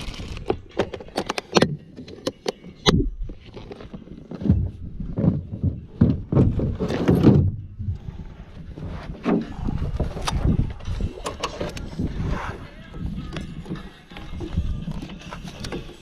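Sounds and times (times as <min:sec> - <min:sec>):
bumps and thumps of handling: 0:00.0 - 0:16.0.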